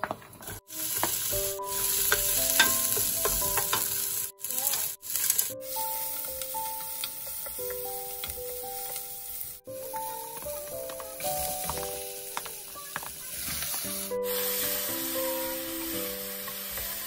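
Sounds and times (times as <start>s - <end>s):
background music with held notes: 0.0s - 17.0s
aromatics sizzling in hot oil: 0.4s - 17.0s.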